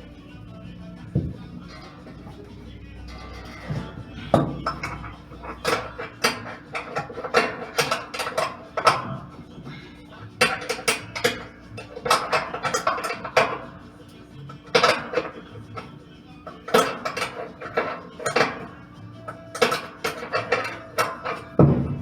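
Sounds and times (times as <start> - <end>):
metal tools clinking and knocking: 1.2 - 22.0.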